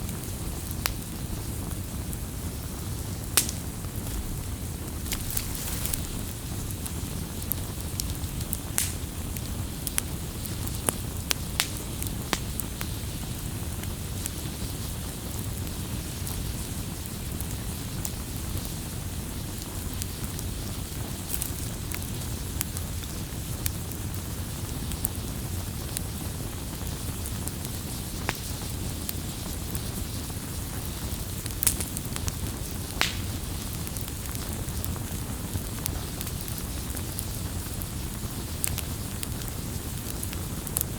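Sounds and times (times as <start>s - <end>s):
campfire crackling and popping: 0.0s - 40.9s
low rumble of burning: 0.0s - 40.9s.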